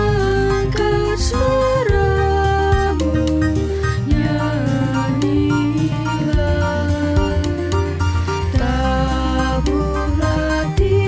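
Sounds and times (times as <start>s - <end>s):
background music with chords and bass: 0.0s - 11.0s.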